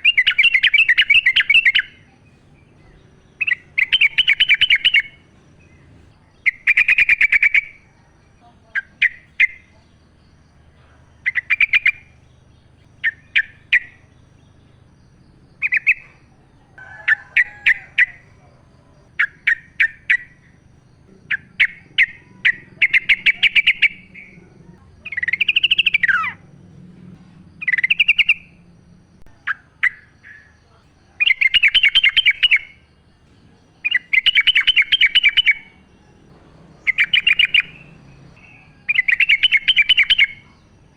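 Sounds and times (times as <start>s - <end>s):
bird singing bubbly phrases: 0.0s - 16.6s, 17.4s - 26.6s, 27.6s - 28.6s, 29.2s - 40.9s.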